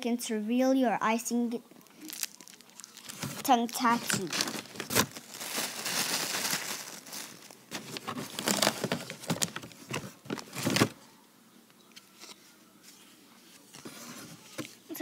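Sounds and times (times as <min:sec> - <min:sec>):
crinkling and rustling from handling: 0:01.7 - 0:11.0, 0:11.9 - 0:15.0.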